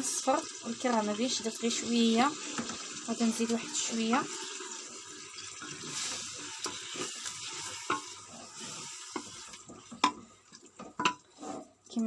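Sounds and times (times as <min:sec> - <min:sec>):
food sizzling in oil: 0:00.0 - 0:11.7.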